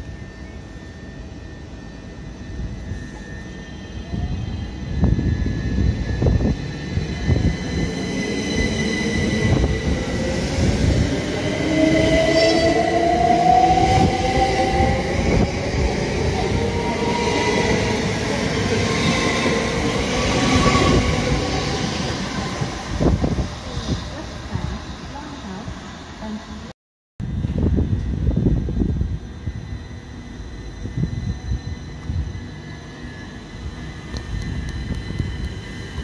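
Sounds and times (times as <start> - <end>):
train wheels rumbling on rail: 2.7 - 26.6, 27.3 - 36.0.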